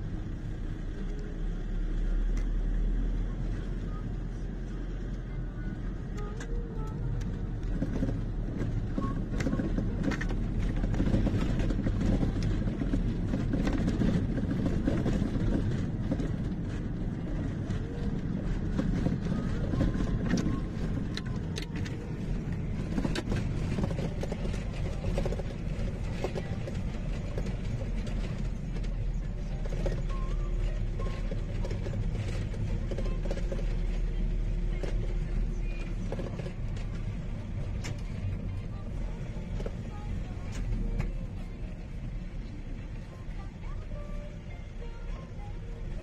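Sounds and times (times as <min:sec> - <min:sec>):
vehicle engine and road noise: 0:00.0 - 0:46.0
faint clicks and rattles: 0:05.9 - 0:46.0.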